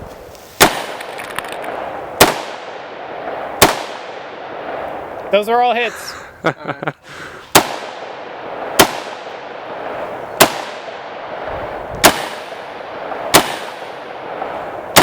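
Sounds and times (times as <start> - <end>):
rifle shots with echo: 0.6 - 5.2, 7.5 - 15.0.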